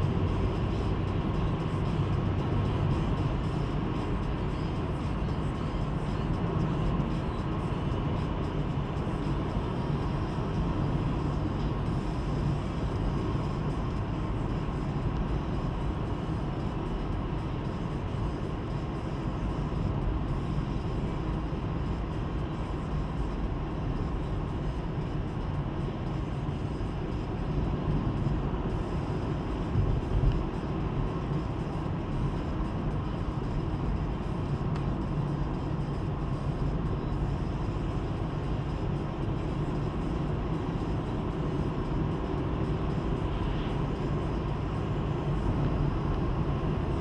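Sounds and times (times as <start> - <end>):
car engine driving: 0.0 - 47.0
tyre road noise: 0.0 - 47.0.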